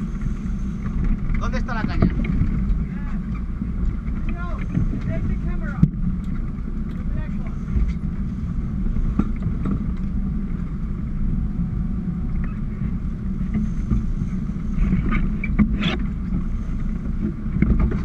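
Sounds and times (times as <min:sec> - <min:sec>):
boat motor rumbling: 0:00.0 - 0:18.0
water along the hull: 0:00.0 - 0:18.0
wind on the microphone: 0:00.0 - 0:18.0.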